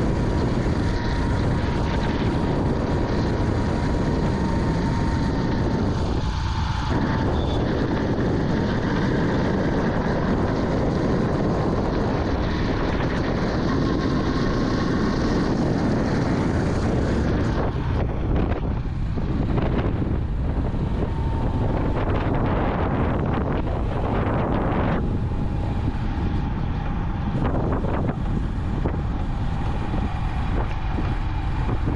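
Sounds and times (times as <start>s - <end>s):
wind noise on microphone: 0.0s - 31.9s.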